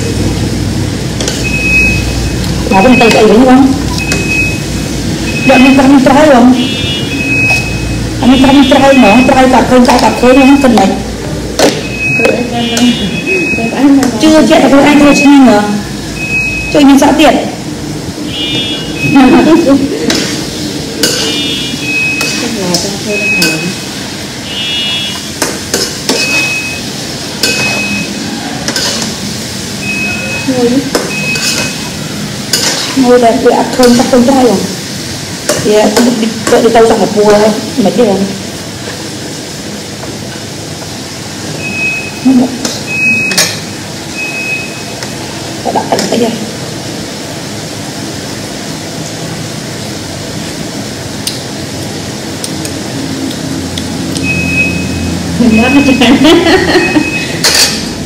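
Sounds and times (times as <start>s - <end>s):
wok cooking hiss: 0.0s - 58.0s.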